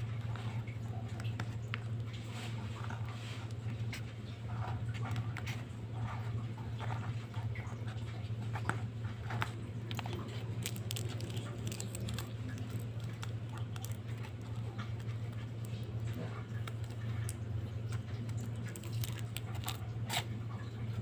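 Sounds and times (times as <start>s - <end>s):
steady low hum: 0.0s - 21.0s
paper rustling: 0.3s - 21.0s.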